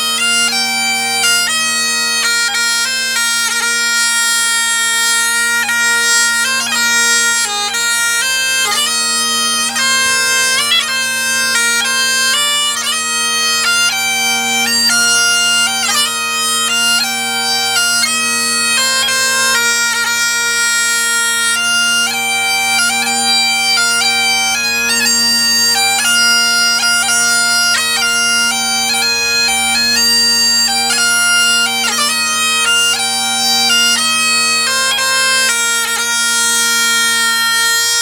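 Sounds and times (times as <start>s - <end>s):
bagpipe chanter melody: 0.0s - 38.0s
bagpipe drones: 0.0s - 38.0s.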